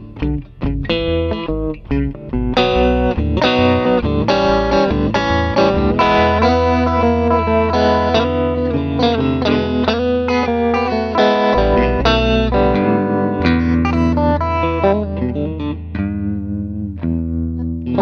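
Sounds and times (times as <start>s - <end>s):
instrumental rock guitar music: 0.0s - 18.0s.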